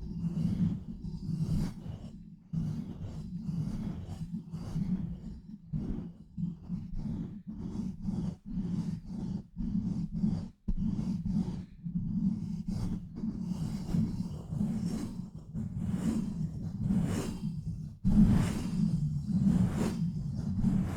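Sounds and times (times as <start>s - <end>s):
rubbing and scratching on microphone: 2.6s - 20.9s.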